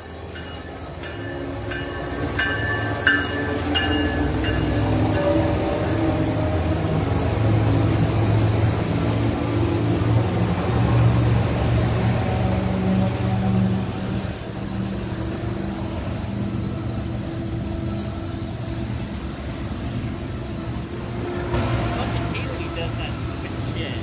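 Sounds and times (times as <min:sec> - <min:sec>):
diesel locomotive engine: 0:00.0 - 0:24.0
train wheels on rail: 0:00.0 - 0:24.0.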